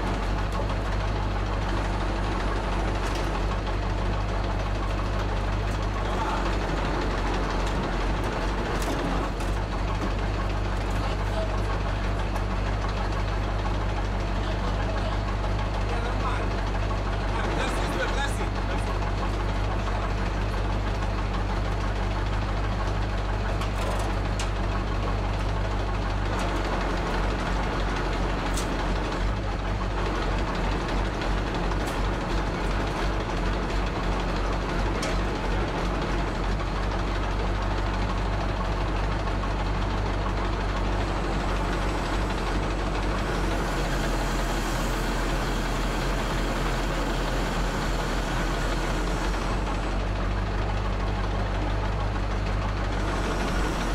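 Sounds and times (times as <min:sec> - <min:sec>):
crane diesel engine running: 0:00.0 - 0:53.9.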